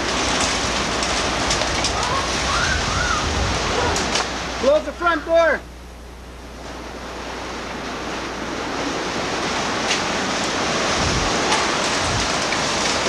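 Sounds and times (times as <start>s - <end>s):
strong wind across microphone: 0.0s - 4.6s, 6.9s - 13.0s.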